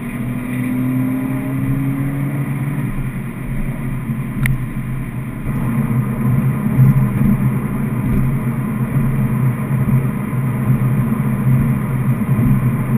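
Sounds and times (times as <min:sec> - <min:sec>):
car engine cruising: 0:00.0 - 0:12.9
tyre and road noise: 0:00.0 - 0:12.9.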